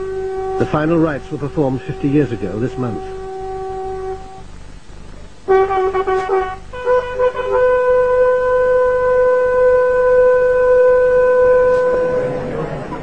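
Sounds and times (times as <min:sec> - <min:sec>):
bugle call: 0:00.0 - 0:04.5, 0:05.5 - 0:12.5.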